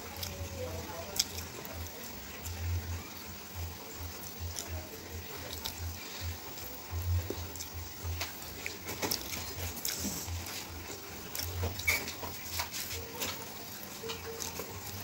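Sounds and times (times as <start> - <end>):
child chewing food: 0.0 - 15.0.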